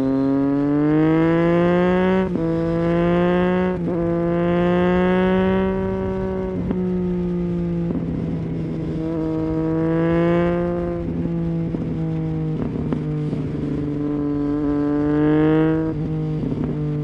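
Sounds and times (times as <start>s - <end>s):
motorcycle engine on the move: 0.0s - 17.0s.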